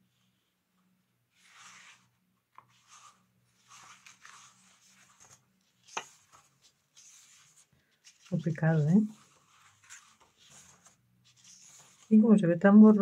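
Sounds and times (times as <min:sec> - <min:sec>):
book pages turning: 0:01.3 - 0:12.2.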